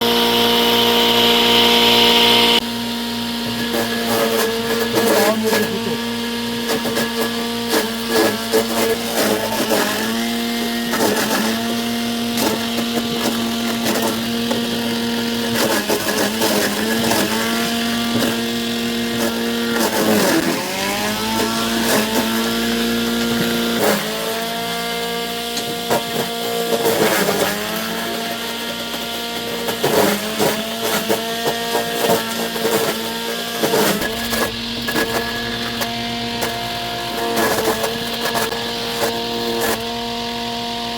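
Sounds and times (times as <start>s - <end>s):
small motor humming: 0.0s - 40.9s.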